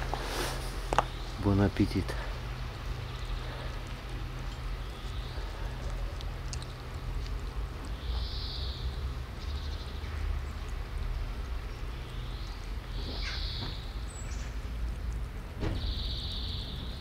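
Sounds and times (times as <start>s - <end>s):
cats chewing food: 0.0s - 17.0s
steady low rumble: 0.0s - 17.0s.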